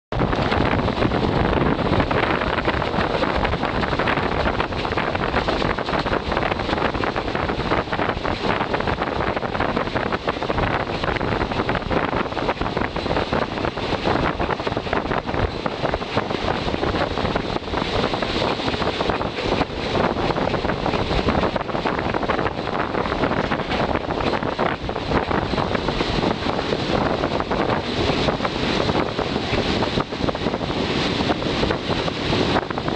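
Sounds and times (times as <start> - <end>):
train rattling clatter: 0.1 - 32.9
wind buffeting microphone: 0.1 - 32.9.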